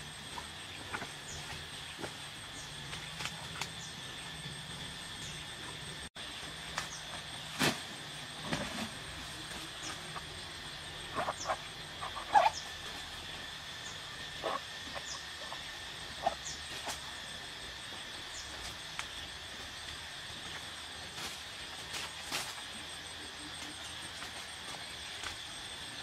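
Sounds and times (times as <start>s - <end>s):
rustles in undergrowth: 0.0s - 4.1s, 6.2s - 26.0s
insect drone: 0.0s - 26.0s.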